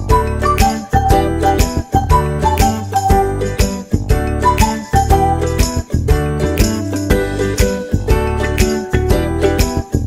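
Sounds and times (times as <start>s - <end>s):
background music with steady beat: 0.0s - 10.0s
jingling percussion: 0.0s - 10.0s.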